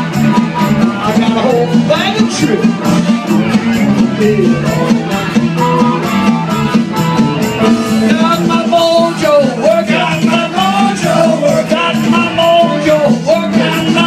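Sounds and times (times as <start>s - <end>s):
blues band playing: 0.0s - 14.0s
repeating bass riff: 0.0s - 14.0s.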